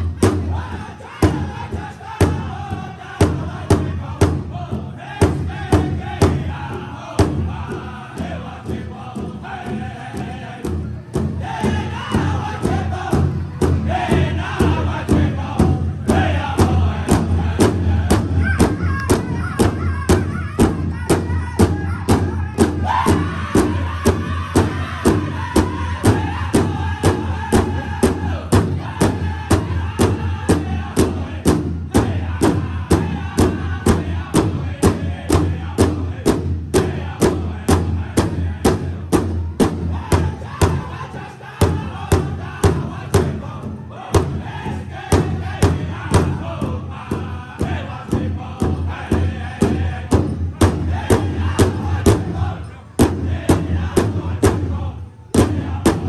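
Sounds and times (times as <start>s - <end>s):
large drum beaten in unison: 0.0s - 56.0s
men singing together: 0.0s - 56.0s.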